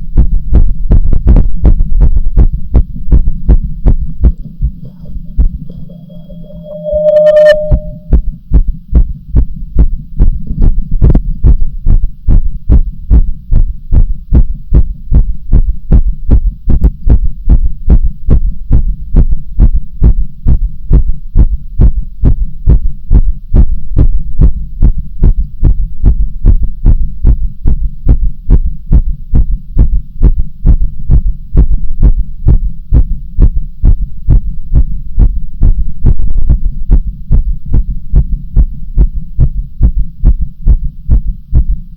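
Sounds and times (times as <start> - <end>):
heartbeat thuds: 0.0 - 41.9
steady low hum: 0.0 - 41.9.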